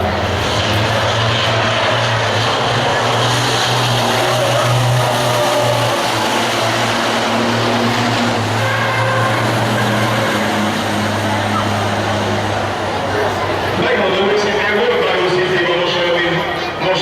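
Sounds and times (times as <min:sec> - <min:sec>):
even rushing noise: 0:00.0 - 0:16.5
vehicle engine drone: 0:00.0 - 0:17.0.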